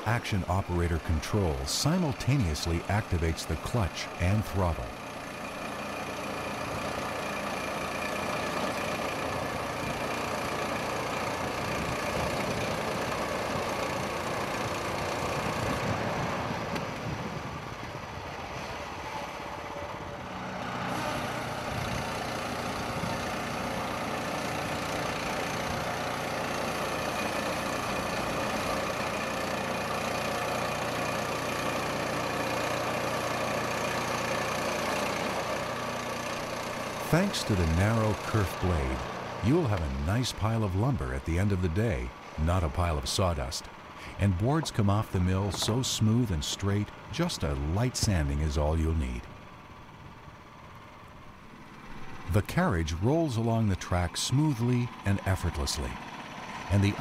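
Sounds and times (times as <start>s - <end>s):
sawmill engine running under load: 0.0s - 57.0s.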